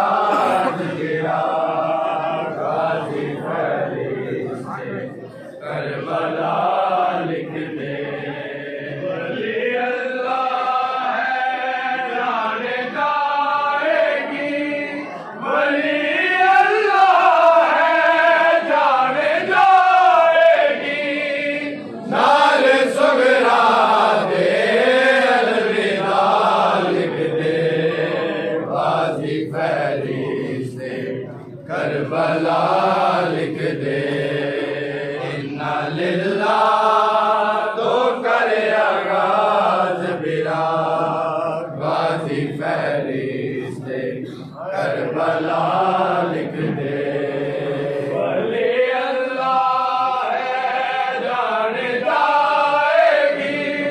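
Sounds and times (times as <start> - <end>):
men chanting a lament: 0.0 - 53.9.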